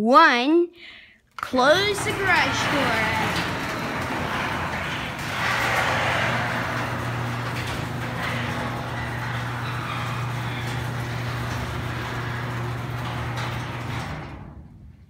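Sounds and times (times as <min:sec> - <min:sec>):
garage door opener running: 0:01.3 - 0:15.0.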